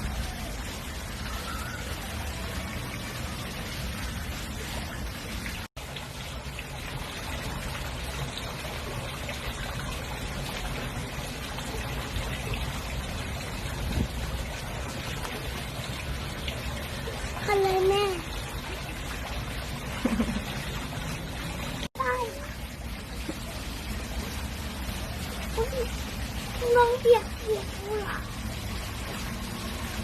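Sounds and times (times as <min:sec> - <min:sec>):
trickling water: 0:00.0 - 0:30.0.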